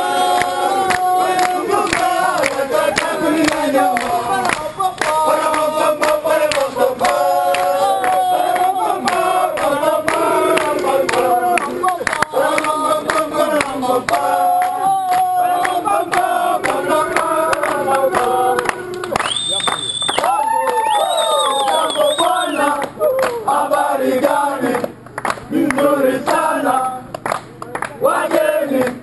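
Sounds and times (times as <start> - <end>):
men chanting in chorus: 0.0 - 19.2, 21.4 - 27.1, 28.0 - 29.0
hand claps: 0.1 - 23.4, 24.7 - 26.4, 27.1 - 29.0.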